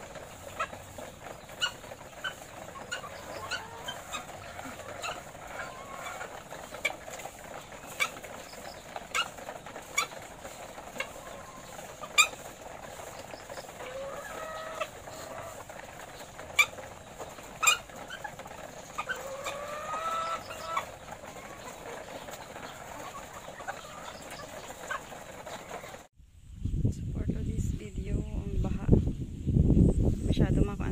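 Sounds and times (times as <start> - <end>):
hens clucking: 0.0 - 26.1.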